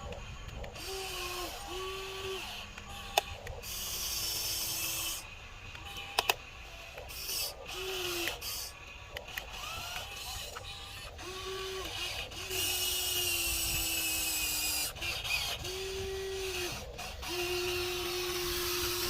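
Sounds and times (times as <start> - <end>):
electric gear motors whining: 0.0 - 19.0
sharp plastic clicks: 0.0 - 19.0.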